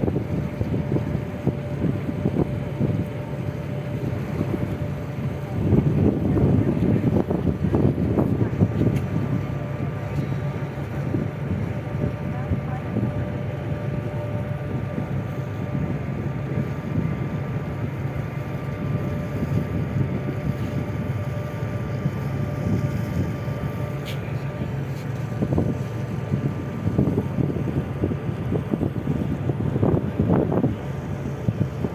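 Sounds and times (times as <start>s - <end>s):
boat engine humming: 0.0s - 31.9s
wind buffeting microphone: 0.0s - 31.9s.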